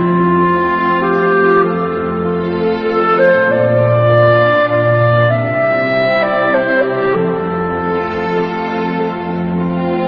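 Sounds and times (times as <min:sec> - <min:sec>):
slow sad instrumental music: 0:00.0 - 0:10.0.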